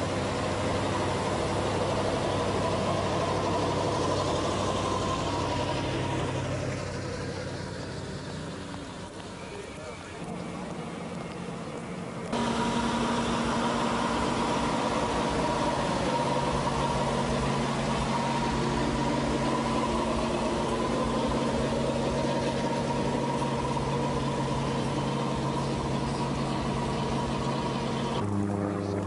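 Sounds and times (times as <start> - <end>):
propeller plane engine running: 0.0 - 29.0.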